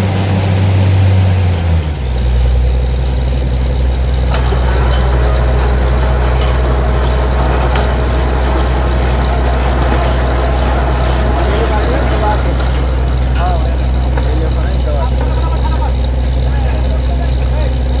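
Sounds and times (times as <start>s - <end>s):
drilling rig engine running: 0.0s - 18.0s.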